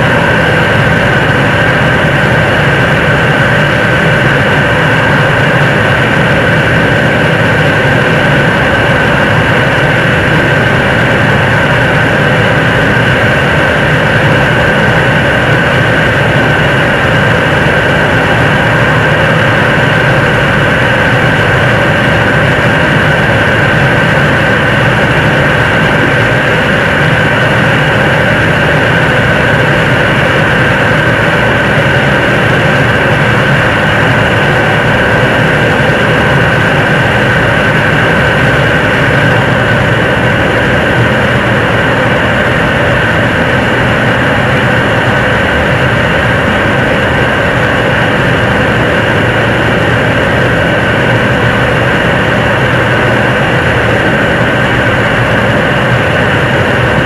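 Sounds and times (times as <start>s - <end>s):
rocket engine firing: 0.0s - 57.0s.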